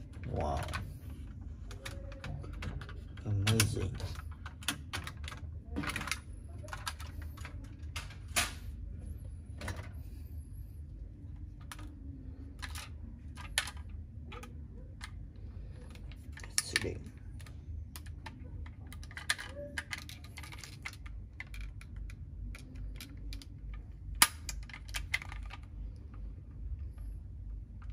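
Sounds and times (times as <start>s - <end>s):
toy trucks clicking and knocking: 0.0s - 8.7s, 11.5s - 26.0s
steady low hum: 0.0s - 27.9s.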